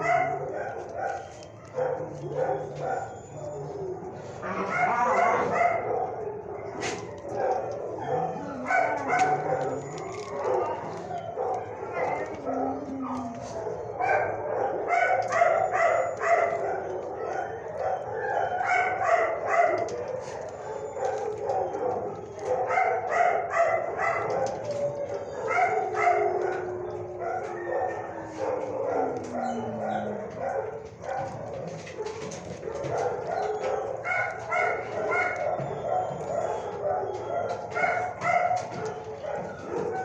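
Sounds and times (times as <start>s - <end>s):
dogs barking: 0.0s - 40.0s.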